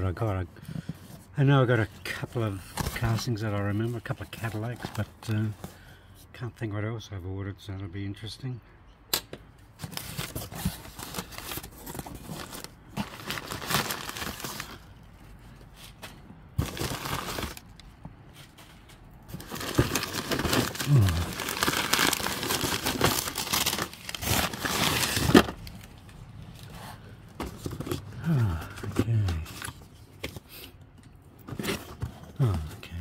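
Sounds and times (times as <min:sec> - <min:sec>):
packing paper rustling and crinkling: 0:00.0 - 0:05.8, 0:09.8 - 0:30.6, 0:31.4 - 0:33.0.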